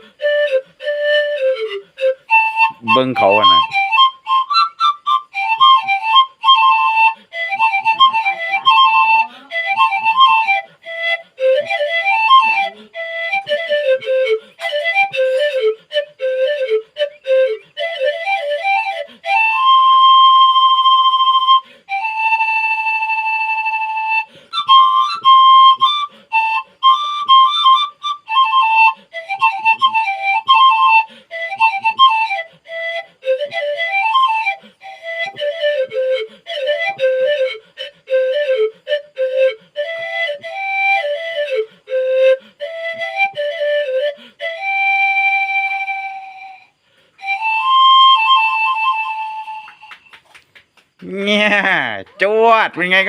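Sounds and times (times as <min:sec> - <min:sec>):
bamboo panpipe tune: 0:00.0 - 0:50.2.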